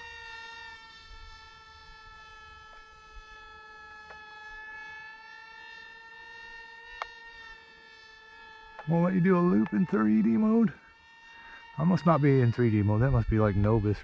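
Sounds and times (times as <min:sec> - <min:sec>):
model jet motors whining: 0:00.0 - 0:14.0.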